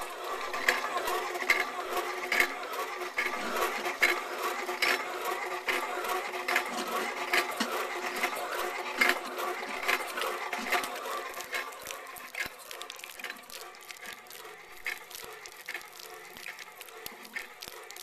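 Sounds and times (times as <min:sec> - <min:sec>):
piston pump humming and knocking: 0:00.0 - 0:18.0.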